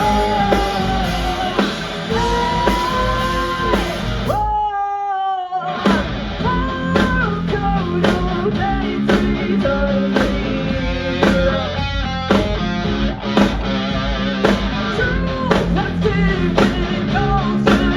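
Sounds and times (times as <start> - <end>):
electric guitar: 0.0 - 4.4, 5.6 - 17.9
drum kit beat: 0.0 - 4.7, 5.8 - 17.9
person singing lead vocal: 0.0 - 12.4, 14.8 - 17.9.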